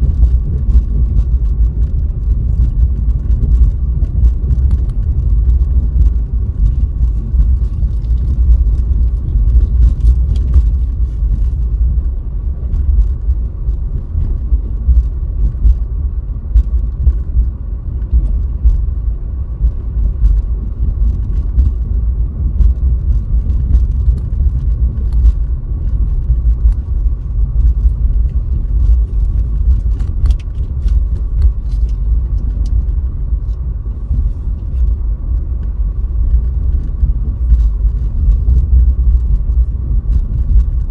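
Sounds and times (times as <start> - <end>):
tyre and engine rumble: 0.0 - 40.9.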